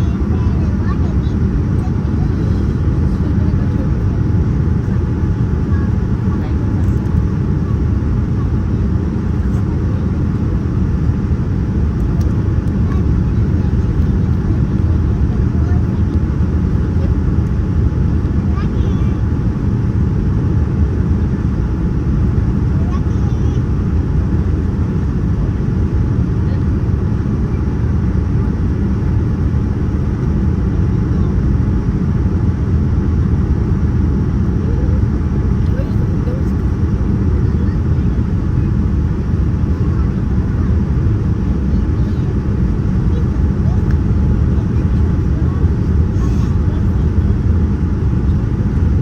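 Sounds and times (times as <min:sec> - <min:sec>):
aircraft cabin engine rumble: 0:00.0 - 0:49.0.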